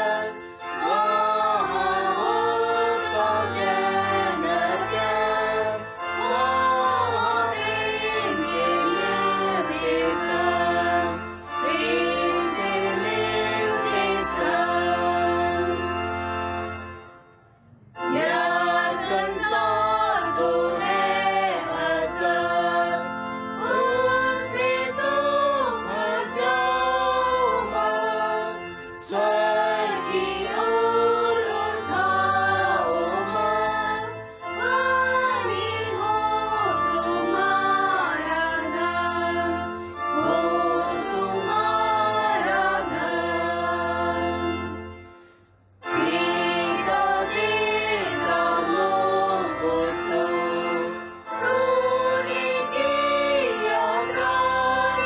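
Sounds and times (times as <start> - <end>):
voices singing a hymn: 0.0 - 17.2, 18.0 - 55.0
instrumental accompaniment: 0.0 - 55.0.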